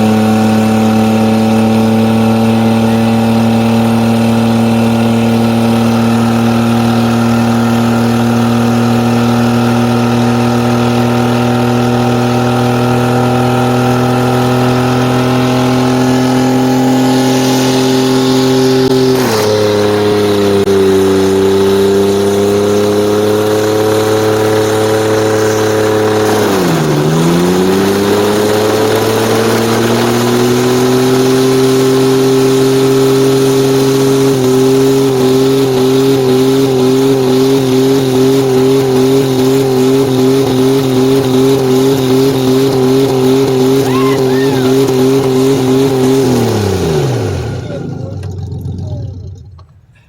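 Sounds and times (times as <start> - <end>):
truck engines revving under load: 0.0 - 50.0.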